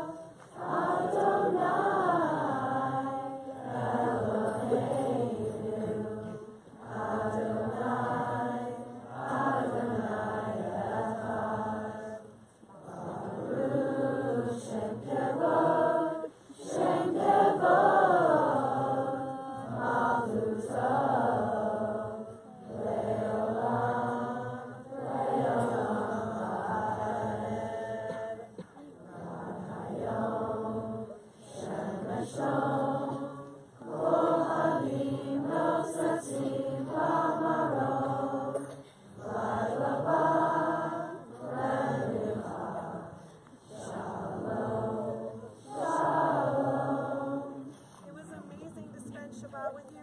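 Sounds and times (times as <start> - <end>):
crowd singing in unison: 0.0 - 49.0.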